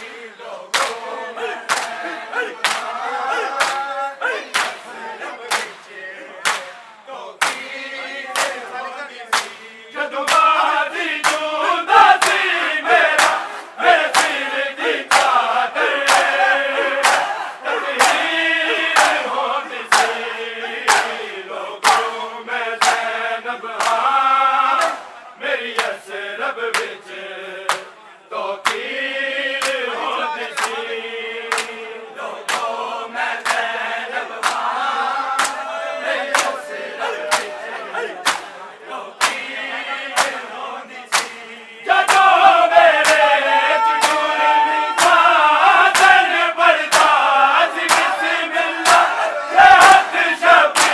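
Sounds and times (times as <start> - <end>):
men chanting in unison: 0.0 - 50.9.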